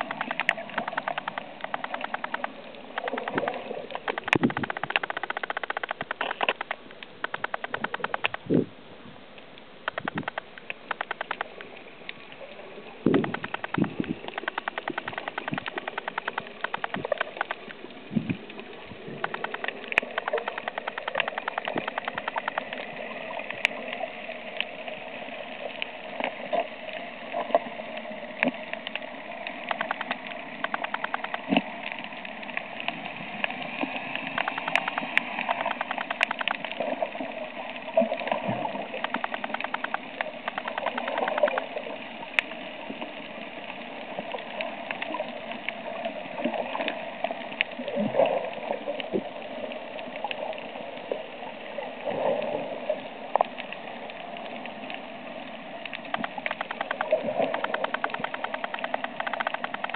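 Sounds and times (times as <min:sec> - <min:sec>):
underwater clicks and crackles: 0:00.0 - 0:59.9
underwater engine drone: 0:00.0 - 0:59.9.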